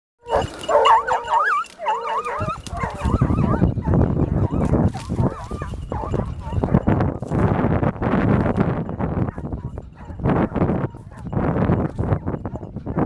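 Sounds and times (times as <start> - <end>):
hounds baying: 0.2 - 13.0.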